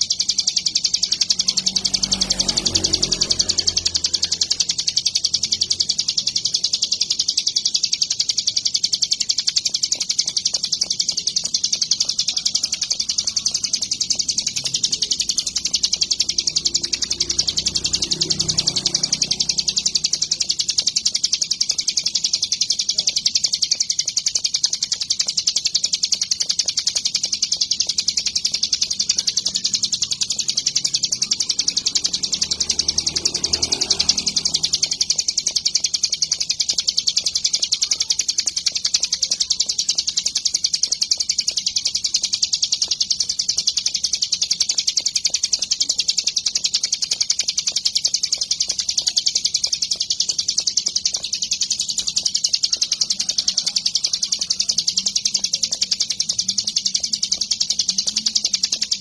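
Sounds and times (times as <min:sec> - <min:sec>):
bird singing fast chatter: 0:00.0 - 0:59.0.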